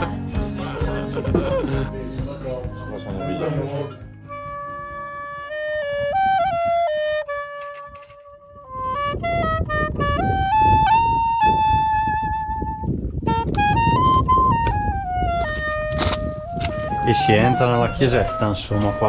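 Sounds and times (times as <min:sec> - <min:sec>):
saxophone slow melody: 0:00.0 - 0:19.0.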